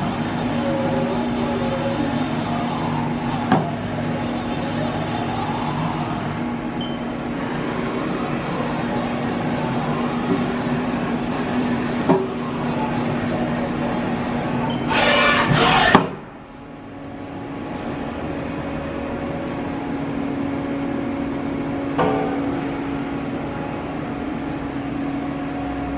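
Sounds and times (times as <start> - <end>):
machining center humming: 0.0 - 25.9.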